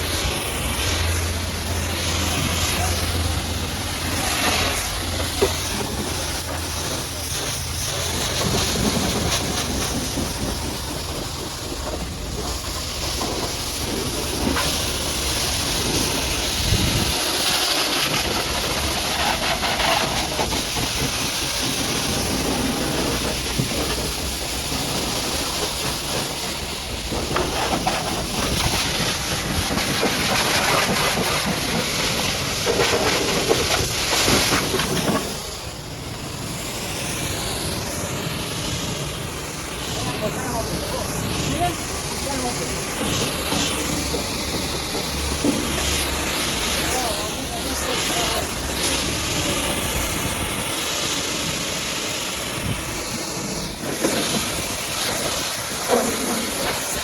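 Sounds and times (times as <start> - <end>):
pressure washer spraying water: 0.0 - 57.0.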